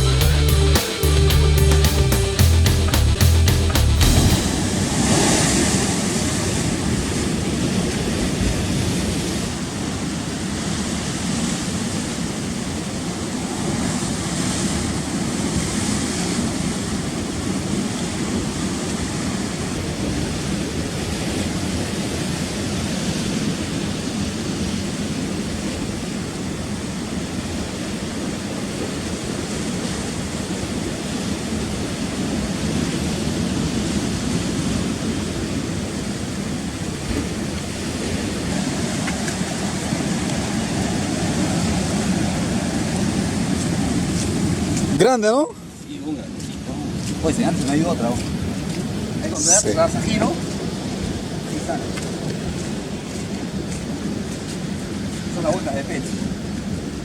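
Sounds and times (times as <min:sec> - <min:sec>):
surf washing over rocks: 0:04.0 - 0:57.0.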